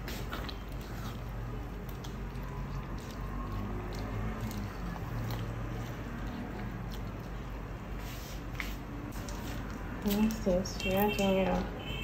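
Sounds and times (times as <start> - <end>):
wet food squelching: 0.0 - 12.0.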